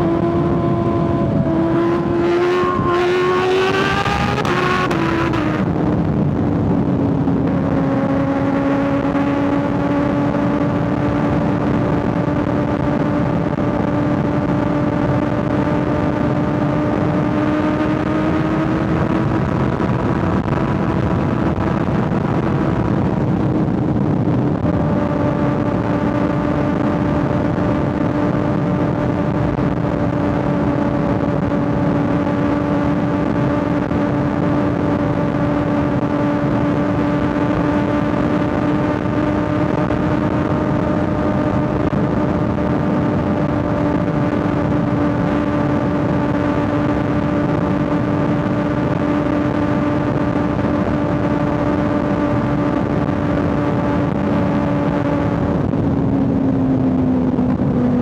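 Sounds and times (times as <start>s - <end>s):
motorcycle engine at high revs: 0.0s - 6.0s, 7.1s - 58.0s.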